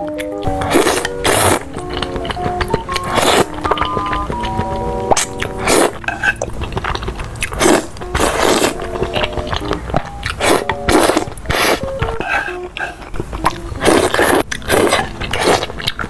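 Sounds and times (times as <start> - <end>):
crunchy chewing: 0.0 - 16.0
soft background music: 0.0 - 16.0.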